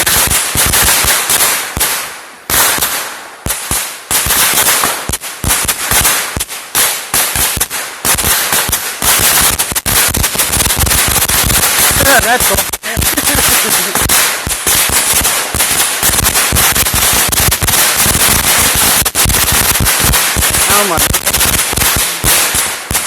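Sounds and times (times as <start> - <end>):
firecrackers banging: 0.0 - 23.0.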